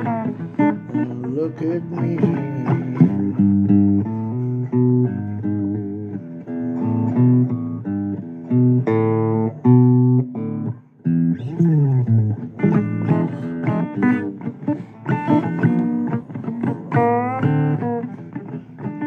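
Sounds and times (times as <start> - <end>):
blues guitar playing: 0.0 - 19.0.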